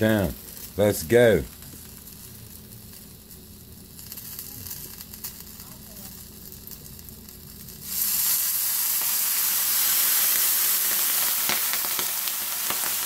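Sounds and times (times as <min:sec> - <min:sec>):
water sizzling on hot pan: 0:00.0 - 0:13.0.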